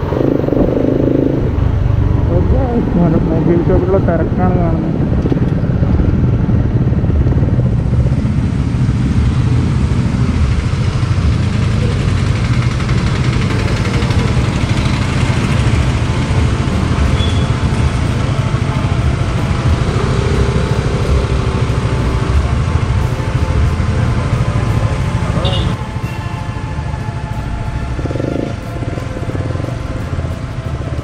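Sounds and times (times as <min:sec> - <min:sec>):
motorcycle engine low rumble: 0:00.0 - 0:31.0.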